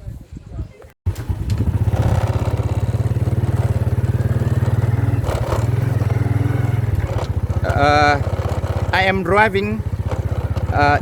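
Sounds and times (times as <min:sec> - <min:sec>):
motorcycle engine running: 0:01.1 - 0:11.0.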